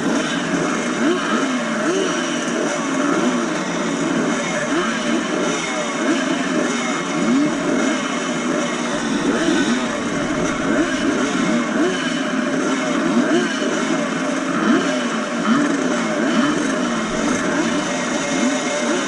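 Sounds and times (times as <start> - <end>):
two-stroke motocross bikes racing: 0.0 - 19.0.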